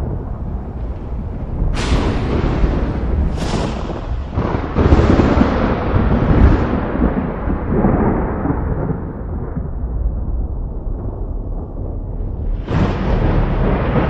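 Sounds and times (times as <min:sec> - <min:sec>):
booming crack: 0:00.0 - 0:14.0
low rolling rumble: 0:00.0 - 0:14.0.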